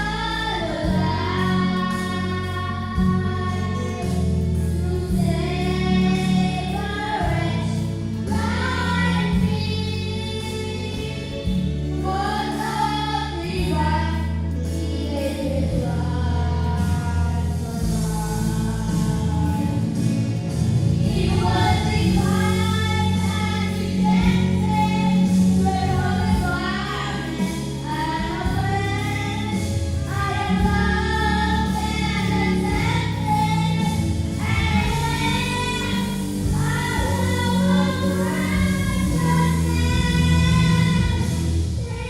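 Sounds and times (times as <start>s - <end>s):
choir singing gospel: 0.0s - 42.0s
instrumental accompaniment with bass: 0.0s - 42.0s.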